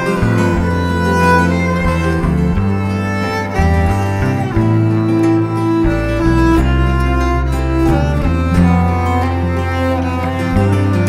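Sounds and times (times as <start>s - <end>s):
deep steady bass line: 0.0s - 11.0s
music with held notes: 0.0s - 11.0s.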